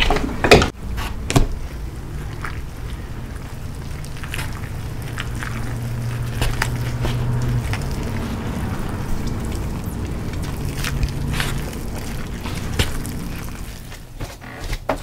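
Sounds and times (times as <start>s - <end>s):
low steady hum: 0.0s - 14.6s.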